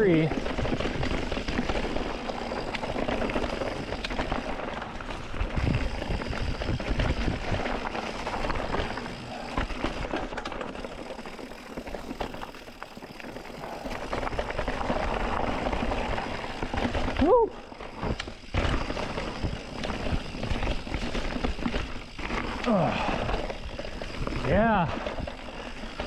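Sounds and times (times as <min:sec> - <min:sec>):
bike rattling and clicking: 0:00.0 - 0:26.0
bike tyres rolling over dirt: 0:00.0 - 0:26.0.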